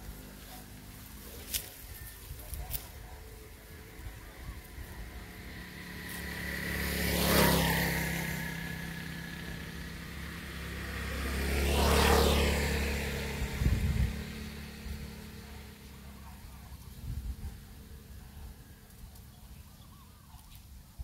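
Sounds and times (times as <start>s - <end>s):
vehicles driving past: 0.0s - 20.3s.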